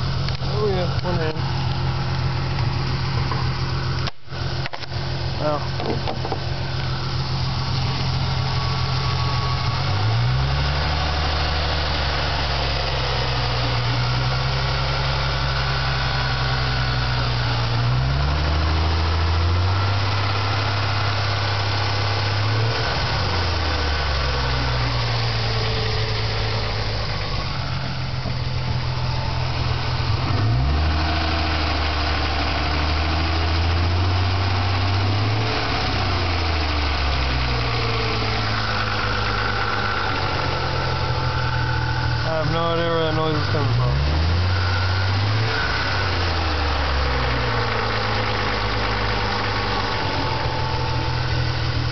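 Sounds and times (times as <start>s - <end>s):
car engine revving and idling: 0.0s - 51.9s.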